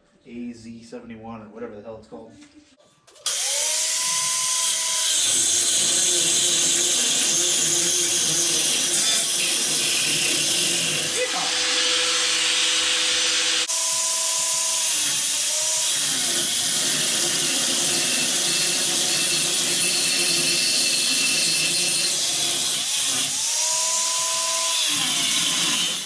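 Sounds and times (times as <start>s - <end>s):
power tool grinding through metal: 3.1s - 26.0s.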